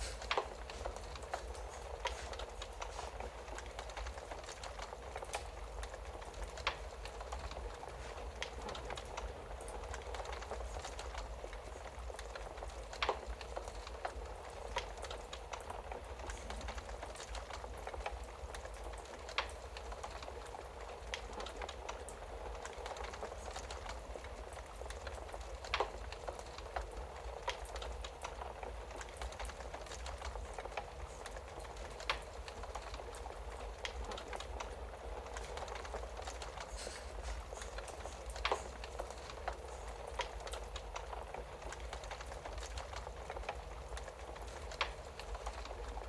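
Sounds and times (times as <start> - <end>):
fire popping: 0.0 - 46.0
wood fire crackling: 0.0 - 46.0.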